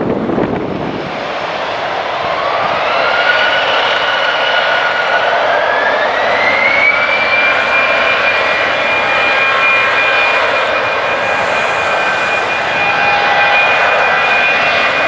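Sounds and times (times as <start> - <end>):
high engine whine: 0.0 - 15.0
jet engines running: 0.0 - 15.0.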